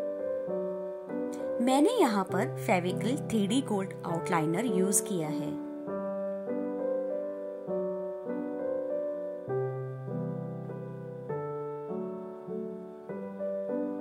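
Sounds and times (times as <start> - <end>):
gentle piano chords: 0.0 - 14.0.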